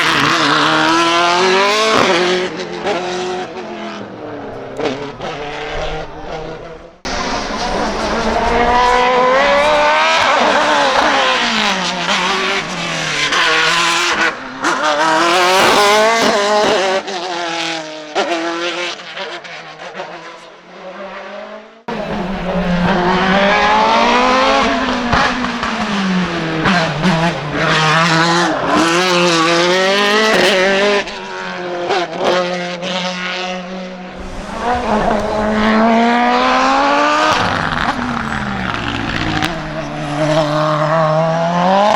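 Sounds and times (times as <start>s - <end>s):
race car engine at full throttle: 0.0s - 41.9s
second race car revving: 0.0s - 41.9s.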